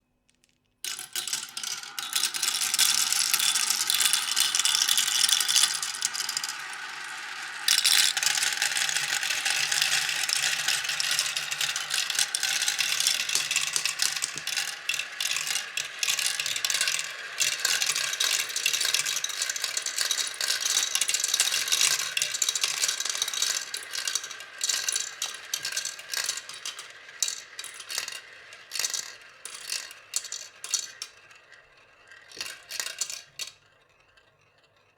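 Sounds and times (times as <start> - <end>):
marbles clattering on wooden run: 0.3 - 33.6.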